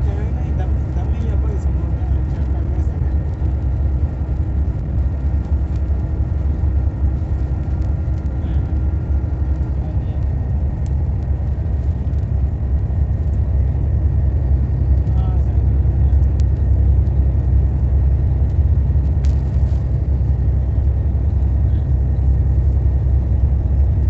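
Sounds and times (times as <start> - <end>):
bus engine and tyre rumble: 0.0 - 24.0.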